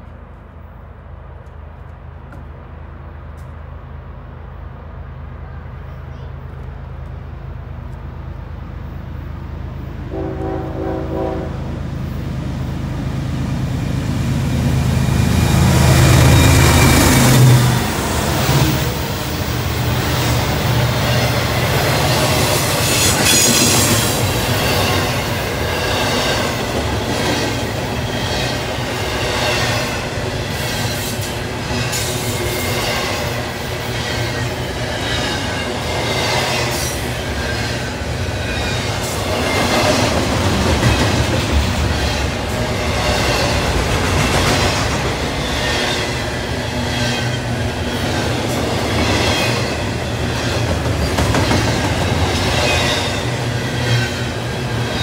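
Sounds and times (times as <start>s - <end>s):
steel wheels rumbling on rail: 6.2s - 55.0s.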